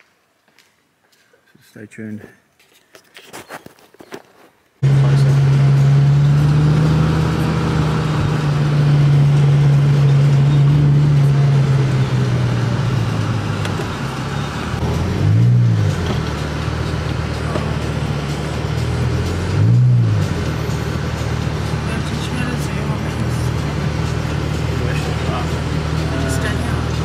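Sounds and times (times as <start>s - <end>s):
car engine running: 4.8s - 27.0s.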